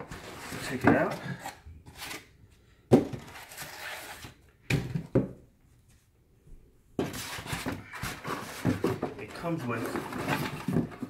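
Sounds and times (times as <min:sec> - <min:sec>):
rustling of box and packaging: 0:00.0 - 0:05.2, 0:07.0 - 0:11.0.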